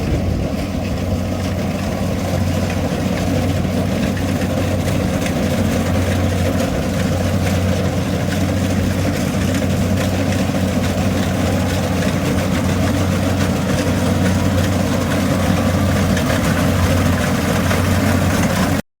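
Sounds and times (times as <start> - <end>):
engine humming: 0.0 - 18.8.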